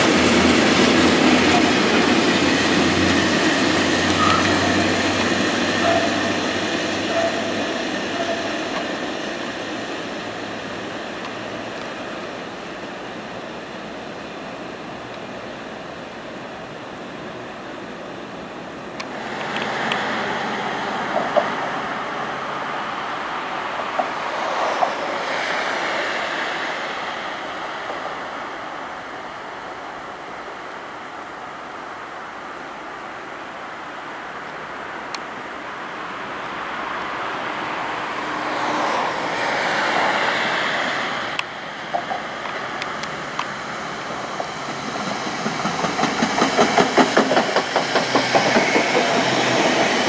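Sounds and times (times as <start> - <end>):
freight train rolling on rails: 0.0 - 50.0.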